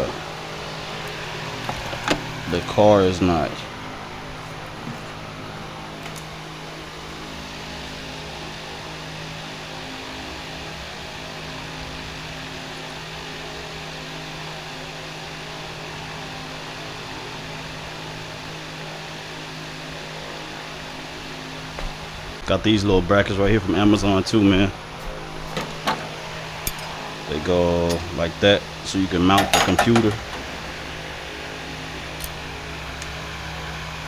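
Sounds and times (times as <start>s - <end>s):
fan running: 0.0s - 34.0s.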